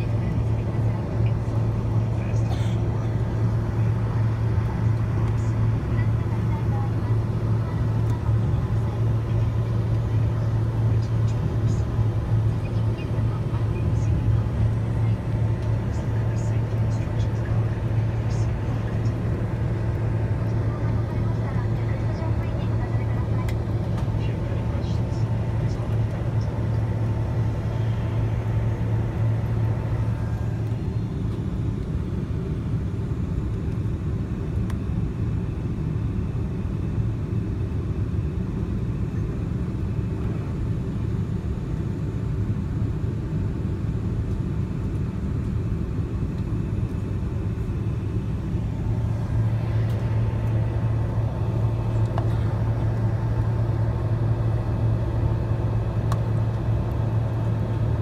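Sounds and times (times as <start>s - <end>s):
airplane engines rumbling: 0.0s - 58.0s
low hum: 0.0s - 58.0s.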